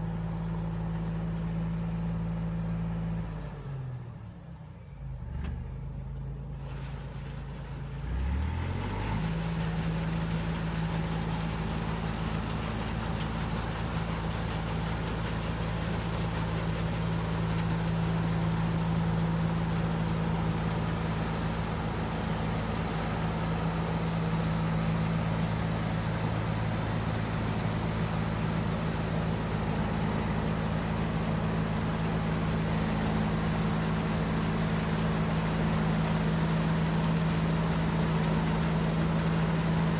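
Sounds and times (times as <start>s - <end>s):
combine harvester engine: 0.0s - 39.9s.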